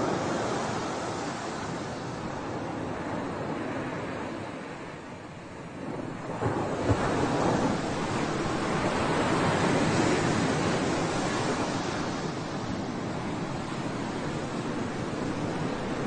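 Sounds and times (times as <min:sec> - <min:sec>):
sea waves washing onto shore: 0:00.0 - 0:16.0
wind on microphone: 0:00.0 - 0:16.0.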